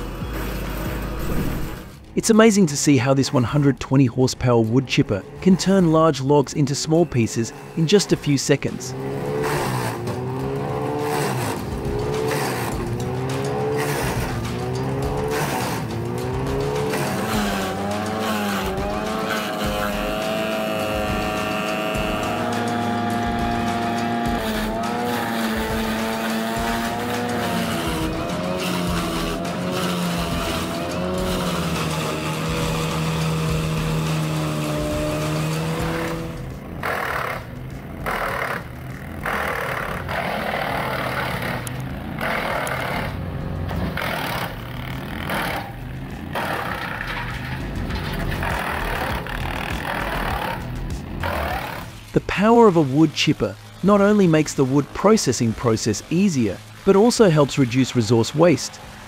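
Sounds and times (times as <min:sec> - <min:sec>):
log grinding and crackling: 0:00.0 - 0:02.0, 0:08.6 - 0:57.5
wood chipper engine chipping: 0:06.8 - 0:59.0.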